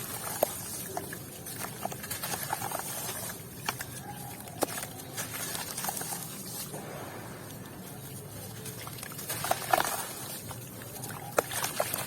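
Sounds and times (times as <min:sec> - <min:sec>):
cement chunks crunching: 0:00.0 - 0:06.8, 0:07.5 - 0:12.0.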